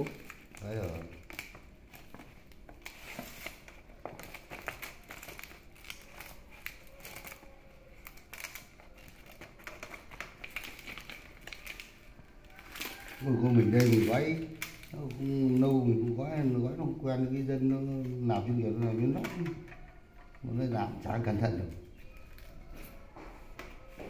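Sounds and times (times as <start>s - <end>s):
leaves crinkling and rustling: 0.0s - 19.3s.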